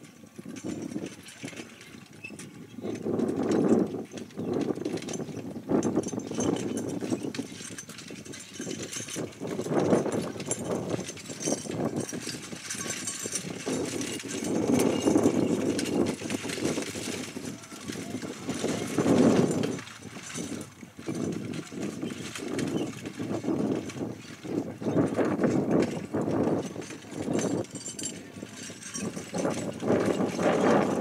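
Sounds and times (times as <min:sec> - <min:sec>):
carriage rattling: 0:00.4 - 0:31.0.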